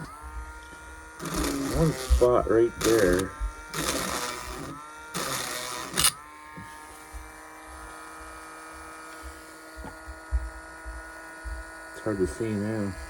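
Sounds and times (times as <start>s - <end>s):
rotary tool grinding plastic: 0.0s - 13.0s
rotary tool whining: 0.0s - 13.0s.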